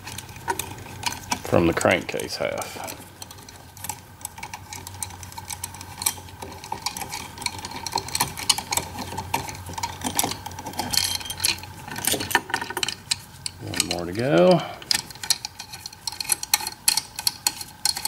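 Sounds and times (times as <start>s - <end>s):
metallic clicks and scrapes: 0.0s - 18.0s.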